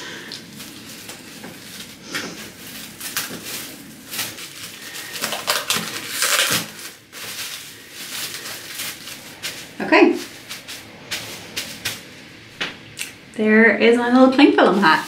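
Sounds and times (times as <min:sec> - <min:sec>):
cling film crinkling: 0:00.1 - 0:13.3.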